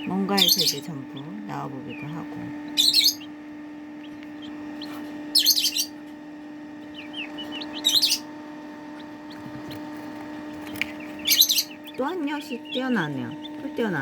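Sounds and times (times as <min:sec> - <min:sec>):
chicks peeping: 0:00.0 - 0:14.0
steady low hum: 0:00.0 - 0:14.0.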